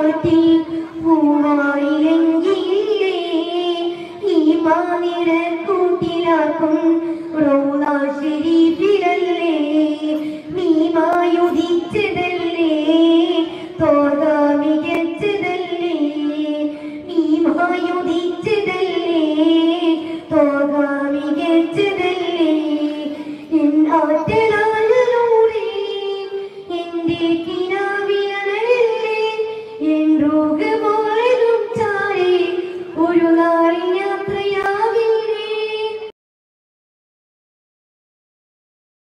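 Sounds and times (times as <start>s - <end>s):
boy singing through a microphone: 0.0s - 36.1s.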